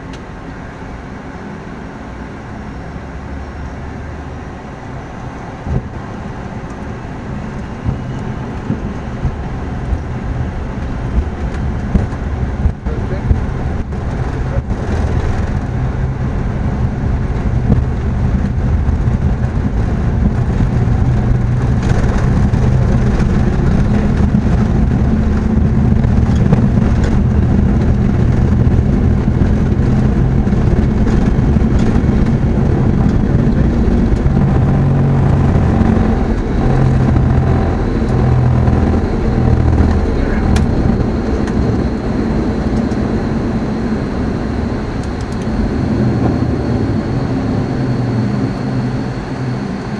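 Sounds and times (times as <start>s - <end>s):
turbofan engines at high power: 0.0s - 49.9s.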